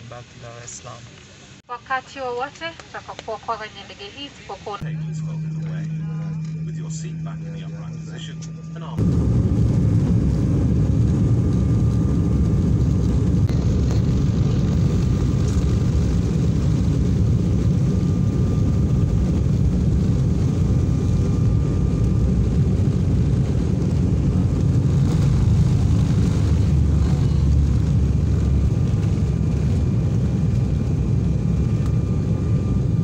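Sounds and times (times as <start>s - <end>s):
jet engine and rolling rumble: 0.1s - 33.0s.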